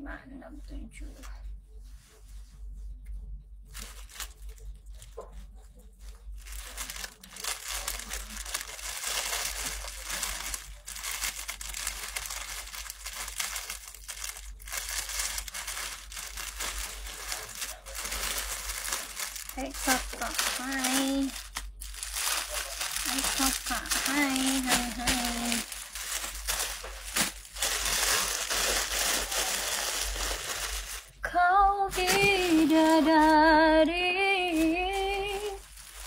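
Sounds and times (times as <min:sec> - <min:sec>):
packaging rustling and crackling: 0:03.7 - 0:31.2, 0:31.9 - 0:33.6, 0:34.2 - 0:36.0.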